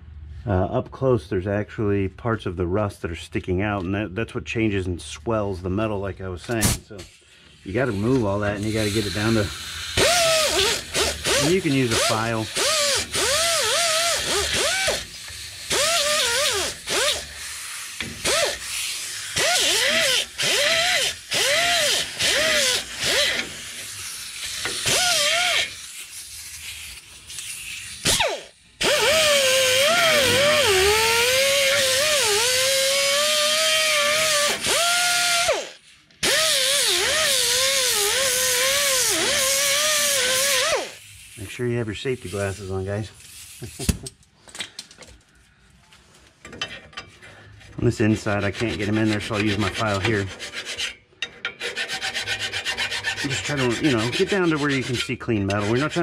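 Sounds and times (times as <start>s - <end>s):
pneumatic grinder grinding metal: 6.6s - 44.1s, 48.4s - 56.0s.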